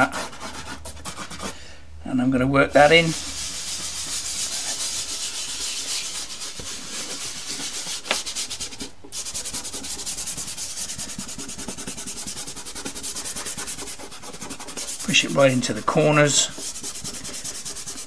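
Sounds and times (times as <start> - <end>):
hand scrubbing pastel on paper: 2.8 - 18.0.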